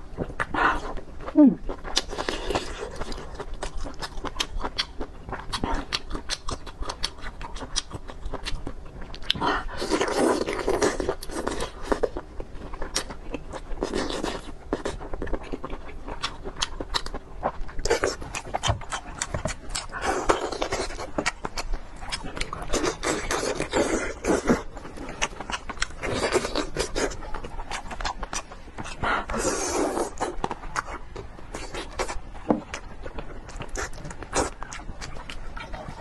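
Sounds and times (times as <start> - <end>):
wet chewing with mouth clicks: 0.0 - 36.0.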